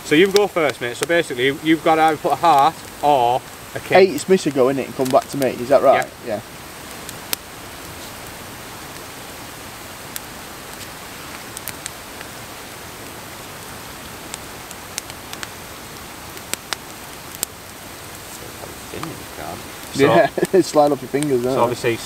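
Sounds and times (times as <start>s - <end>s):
steady even hiss: 0.0s - 22.0s.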